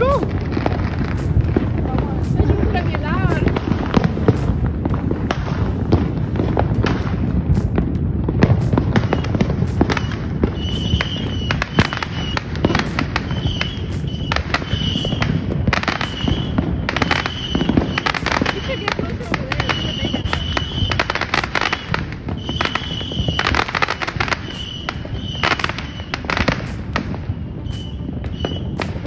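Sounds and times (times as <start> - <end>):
fireworks and firecrackers banging: 0.0 - 29.0
low rumble: 0.0 - 29.0.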